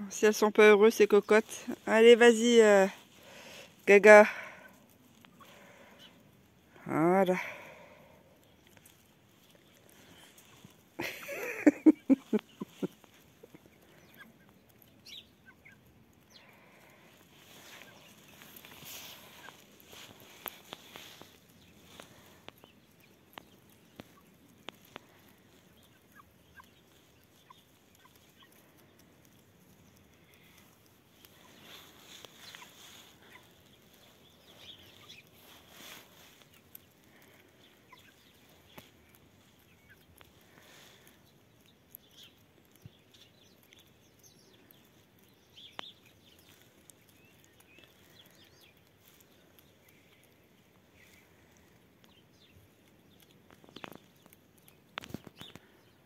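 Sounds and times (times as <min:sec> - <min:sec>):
faint birds chirping: 0:00.0 - 0:56.0.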